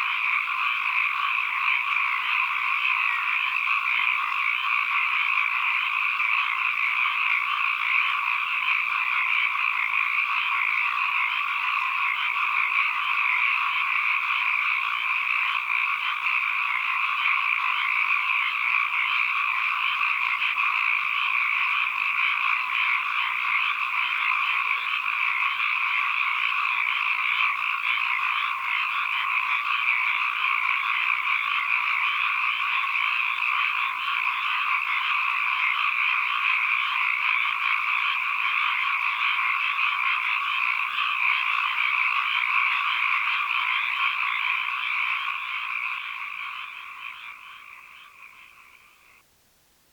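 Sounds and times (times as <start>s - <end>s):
chorus of frogs calling: 0.0s - 49.2s.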